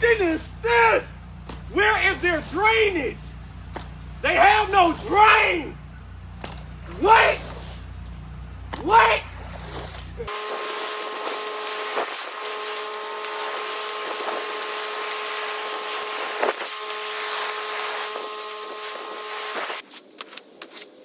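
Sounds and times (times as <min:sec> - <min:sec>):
machine whine: 0:00.0 - 0:19.8
pressure washer spraying water: 0:00.0 - 0:19.8.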